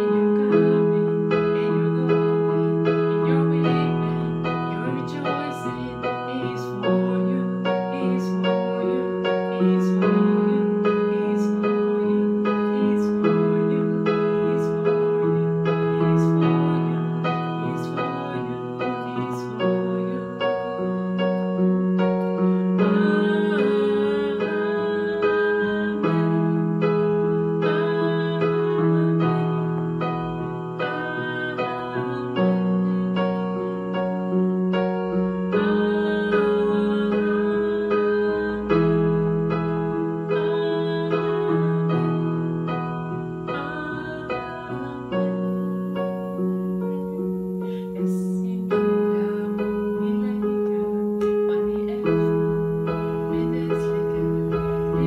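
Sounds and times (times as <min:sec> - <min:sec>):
electronic keyboard piano chords: 0:00.0 - 0:55.0.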